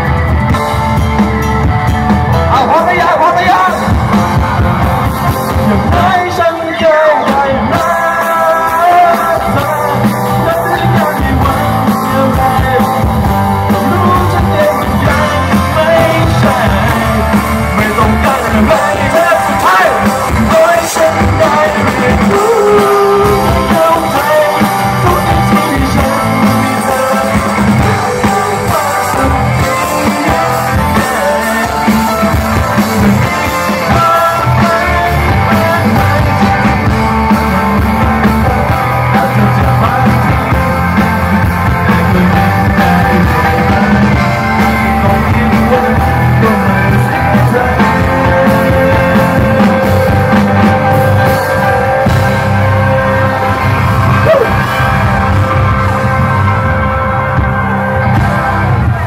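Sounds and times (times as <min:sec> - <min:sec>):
rock band playing: 0:00.0 - 0:59.0
man singing into microphone: 0:02.5 - 0:04.2, 0:05.4 - 0:55.4.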